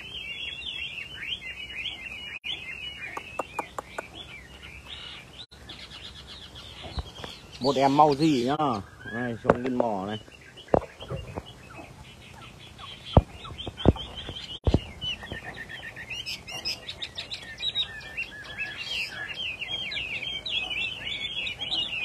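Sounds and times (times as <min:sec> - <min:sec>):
bird warbling song: 0:00.0 - 0:22.0.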